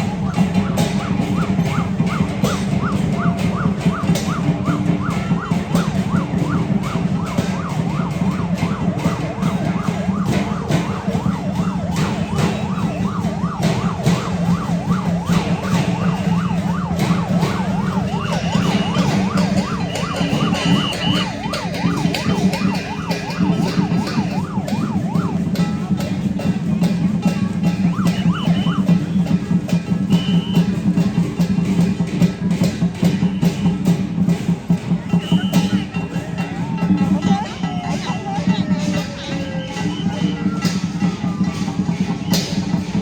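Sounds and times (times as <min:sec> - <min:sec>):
yelping siren: 0:00.0 - 0:31.9, 0:35.1 - 0:43.0
drums and cymbals: 0:00.0 - 0:43.0.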